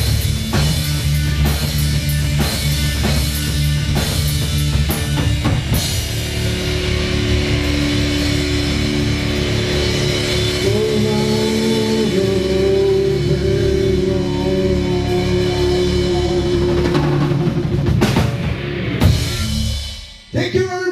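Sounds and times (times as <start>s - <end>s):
heavy drum and cymbal hits: 0.0s - 20.9s
rock band playing live: 0.0s - 20.9s.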